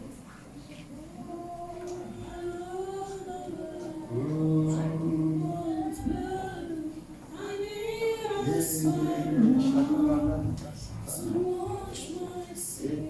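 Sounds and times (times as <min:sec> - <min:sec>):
voices singing together: 0:01.0 - 0:13.0.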